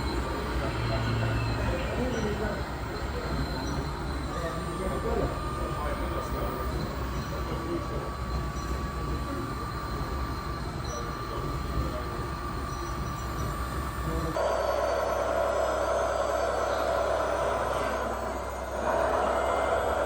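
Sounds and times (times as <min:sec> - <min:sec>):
high electric whine: 0:00.0 - 0:20.0.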